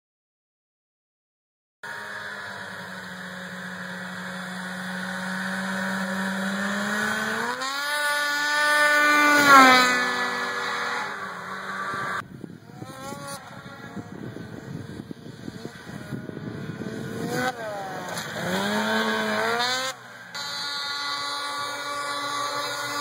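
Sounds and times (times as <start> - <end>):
snowmobile engine passing by: 1.8 - 23.0.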